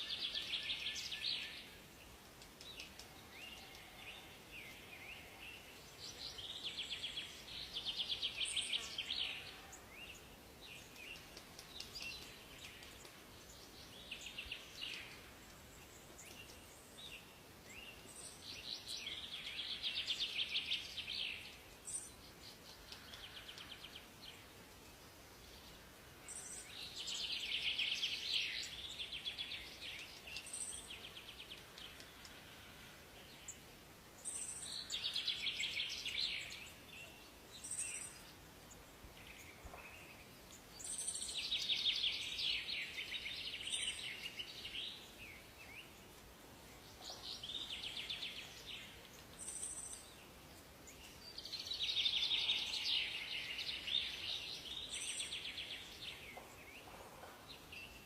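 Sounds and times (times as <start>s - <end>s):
forest ambience hiss: 0.0s - 58.0s.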